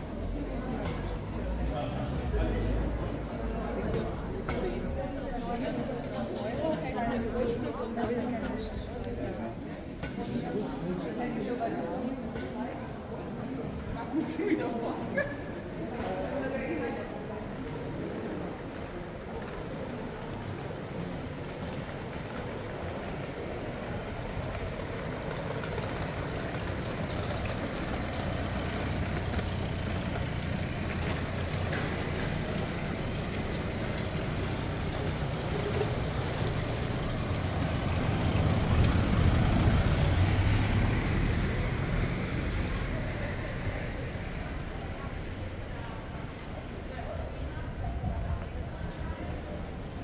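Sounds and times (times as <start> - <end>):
vehicle engine rumble: 0.0 - 10.9, 17.5 - 50.0.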